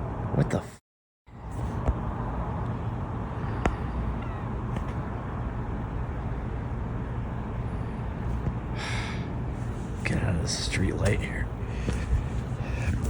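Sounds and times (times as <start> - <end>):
low outdoor rumble: 1.3 - 13.0.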